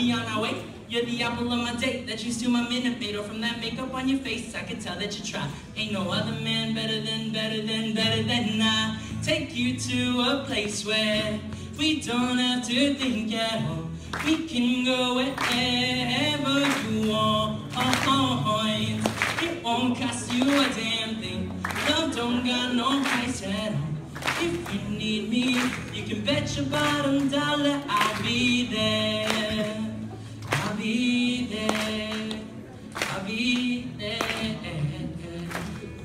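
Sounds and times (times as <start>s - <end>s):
man singing into a microphone: 0.0s - 36.0s
strummed acoustic guitar: 0.0s - 36.0s.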